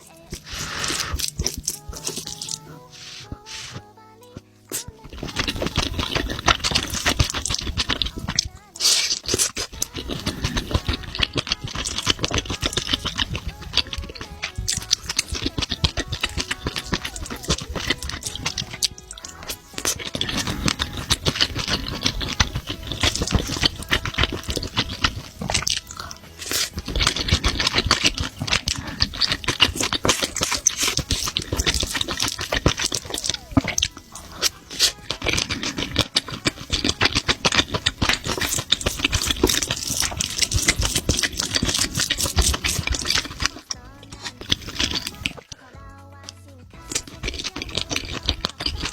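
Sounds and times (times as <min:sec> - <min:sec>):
wet chewing and mouth smacking: 0:00.0 - 0:48.9.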